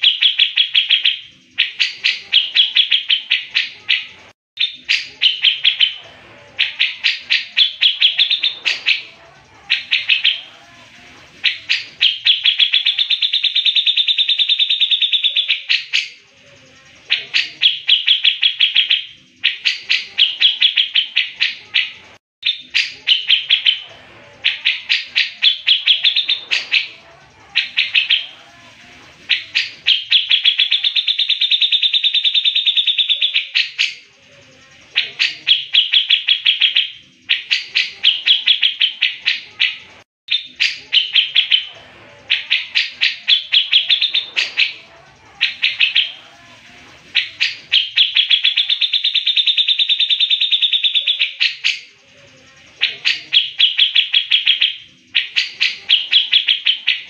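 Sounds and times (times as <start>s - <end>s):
bird singing rapid trills: 0.0s - 57.0s.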